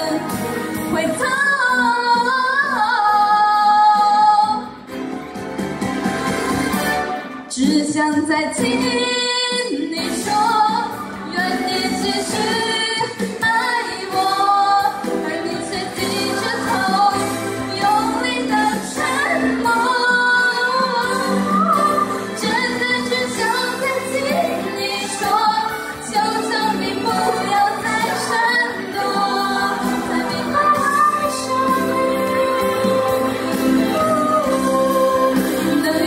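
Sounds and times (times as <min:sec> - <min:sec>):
woman singing into microphone: 0:00.0 - 0:04.8, 0:07.5 - 0:36.0
instrumental accompaniment: 0:00.0 - 0:36.0.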